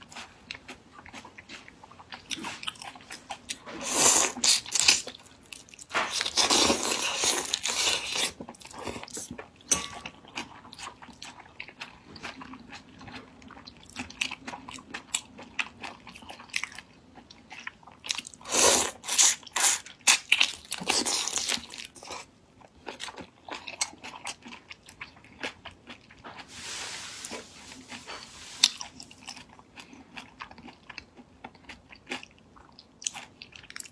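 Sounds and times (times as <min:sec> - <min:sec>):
person chewing crunchy shrimp: 0:00.0 - 0:33.9.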